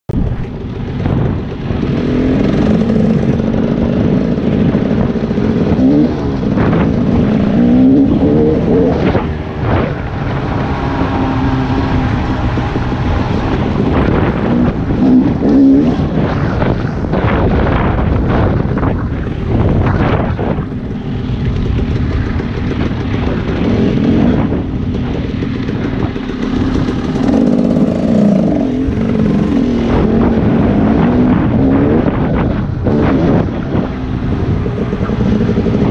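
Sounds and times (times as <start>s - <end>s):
dirt bike engine revving: 0.4s - 35.9s.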